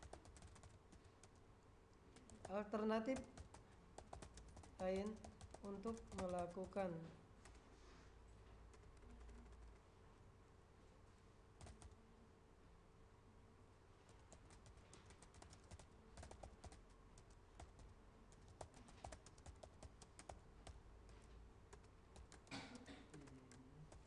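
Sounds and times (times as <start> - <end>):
faint keyboard typing: 0.0 - 7.7, 8.4 - 9.9, 11.6 - 12.0, 14.0 - 24.0.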